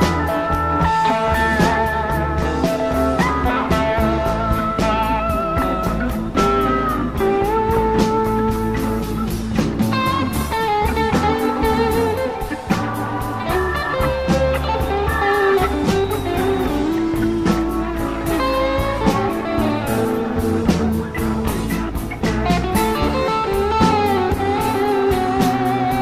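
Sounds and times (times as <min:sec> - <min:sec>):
blues guitar: 0:00.0 - 0:26.0
steady bass: 0:00.0 - 0:26.0.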